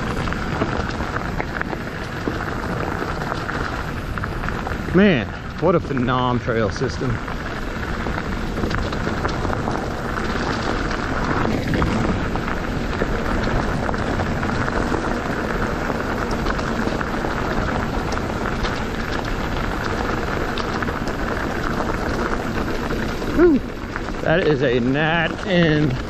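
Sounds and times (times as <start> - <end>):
bike tyres on dirt trail: 0.0 - 26.0
wind on microphone: 0.0 - 26.0.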